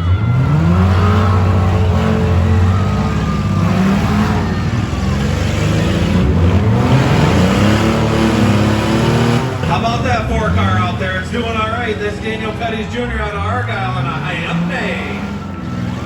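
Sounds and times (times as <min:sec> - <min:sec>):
car engines revving hard: 0:00.0 - 0:16.0.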